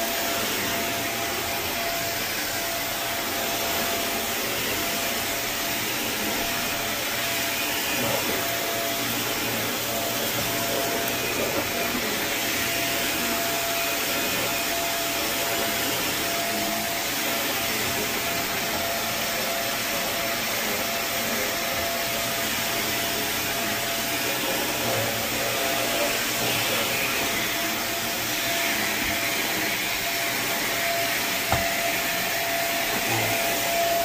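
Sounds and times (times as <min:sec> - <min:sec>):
carpet cleaning machine running: 0:00.0 - 0:34.0.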